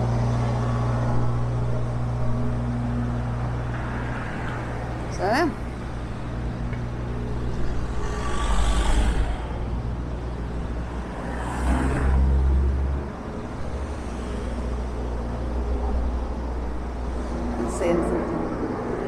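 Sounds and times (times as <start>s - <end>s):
steady low hum: 0.0s - 19.0s
vehicles passing: 0.0s - 19.0s.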